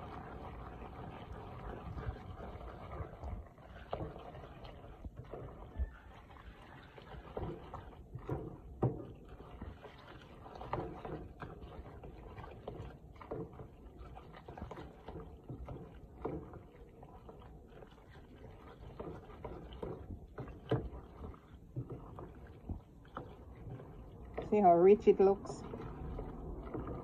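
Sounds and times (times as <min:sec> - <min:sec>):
spatula stirring macaroni: 0:00.0 - 0:27.0.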